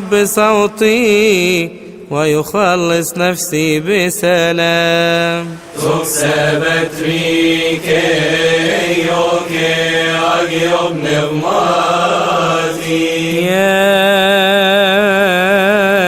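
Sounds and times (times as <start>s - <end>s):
person chanting liturgical melody: 0.0s - 16.0s.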